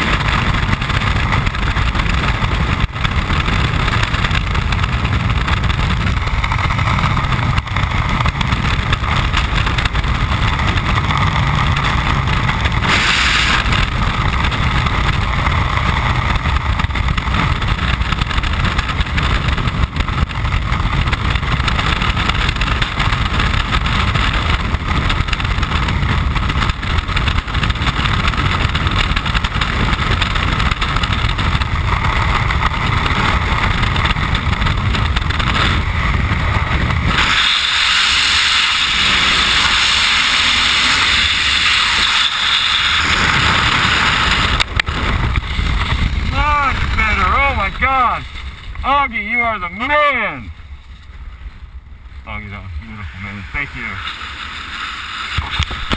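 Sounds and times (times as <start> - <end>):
harsh wind hiss: 0.0 - 55.9
wind roaring over camera: 0.0 - 55.9.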